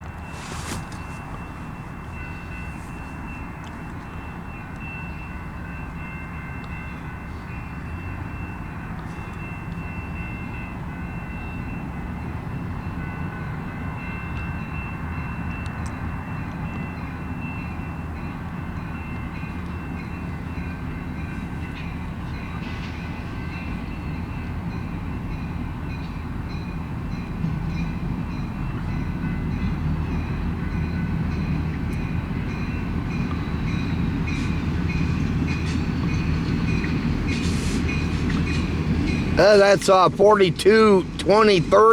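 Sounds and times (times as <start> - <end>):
diesel locomotives rumbling: 0.0 - 41.9.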